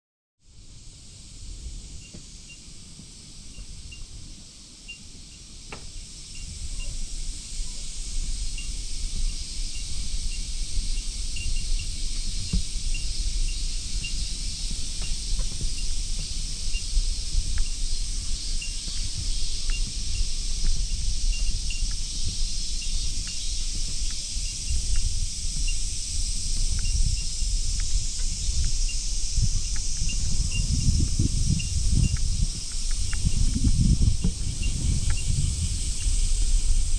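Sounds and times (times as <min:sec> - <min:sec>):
high-pitched insect chorus: 0:00.4 - 0:36.9
wind rumble on microphone: 0:00.5 - 0:36.9.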